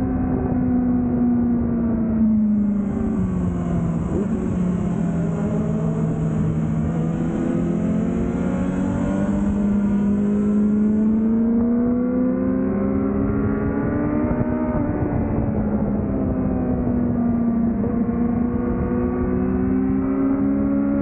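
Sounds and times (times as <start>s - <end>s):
wind and road noise: 0.0s - 21.0s
motorcycle engine revving: 1.9s - 21.0s.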